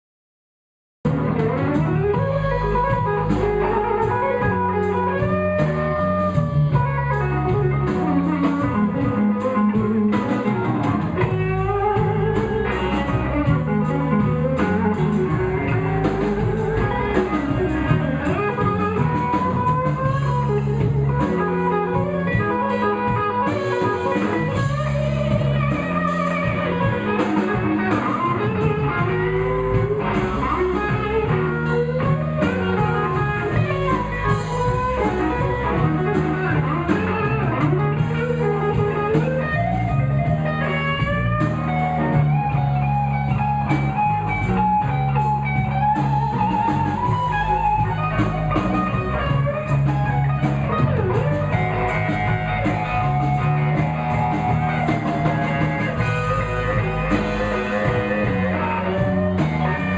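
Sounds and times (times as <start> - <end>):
bass: 1.0 - 59.9
drum kit: 1.0 - 59.9
electric guitar lead: 1.1 - 59.9.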